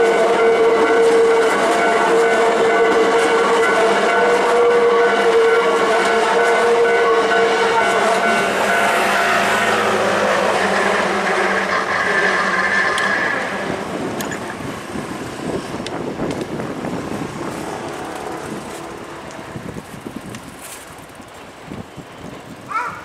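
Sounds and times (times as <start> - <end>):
electric train wheels on rails: 0.0 - 23.0.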